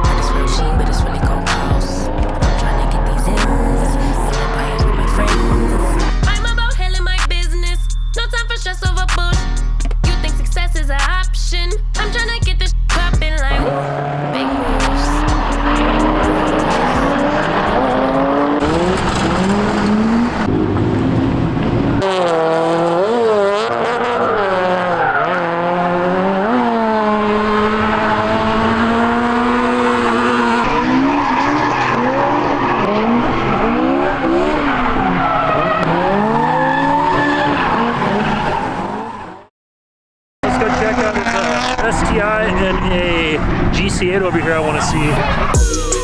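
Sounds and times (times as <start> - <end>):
car engines revving: 0.0 - 7.7, 9.8 - 39.4, 40.4 - 46.0.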